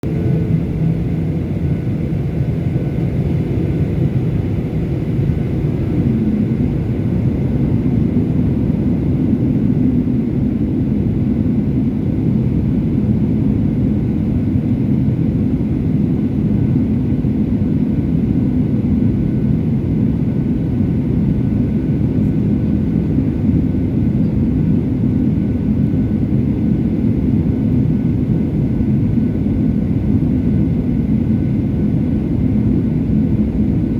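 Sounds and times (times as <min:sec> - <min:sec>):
airliner cabin engine rumble: 0:00.0 - 0:33.9.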